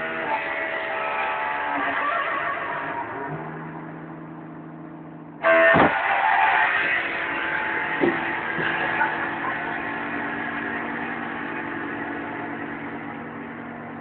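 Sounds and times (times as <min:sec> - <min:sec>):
guitar chord ringing: 0:00.0 - 0:14.0.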